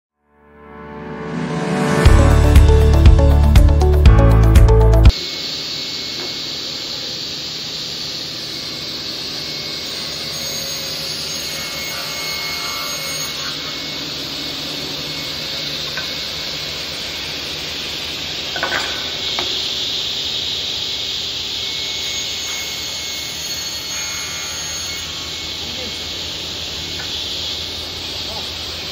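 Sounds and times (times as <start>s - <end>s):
table saw cutting wood: 5.1s - 28.9s.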